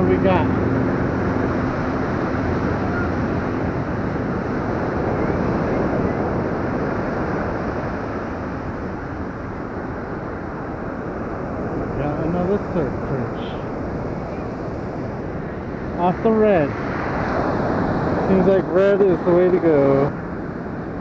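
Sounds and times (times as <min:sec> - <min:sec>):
ocean surf washing up: 0:00.0 - 0:21.0
wind buffeting microphone: 0:00.0 - 0:21.0.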